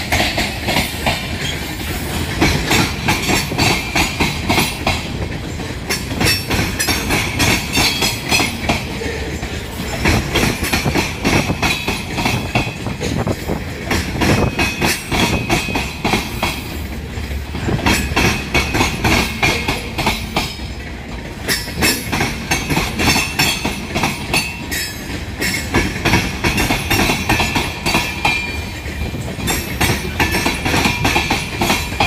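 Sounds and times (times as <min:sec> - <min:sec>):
train rumble: 0:00.0 - 0:32.0
train wheels clacking over rail joints: 0:00.0 - 0:32.0.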